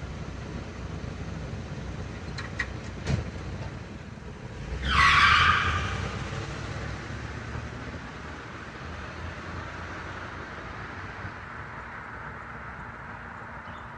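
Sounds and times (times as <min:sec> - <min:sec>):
car passing with tyre noise: 0:00.0 - 0:13.9.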